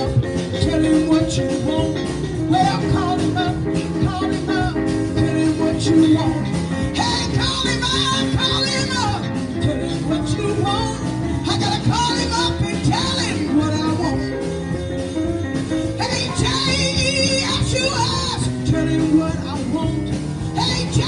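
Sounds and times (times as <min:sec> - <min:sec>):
woman singing into microphone: 0:00.0 - 0:14.5, 0:15.8 - 0:21.0
gospel band playing: 0:00.0 - 0:21.0.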